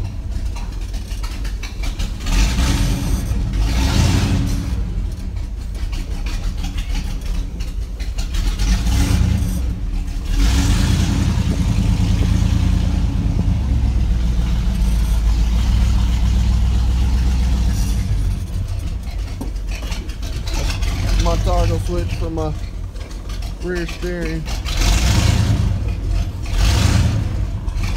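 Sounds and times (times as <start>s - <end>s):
truck engine revving: 0.0s - 27.9s.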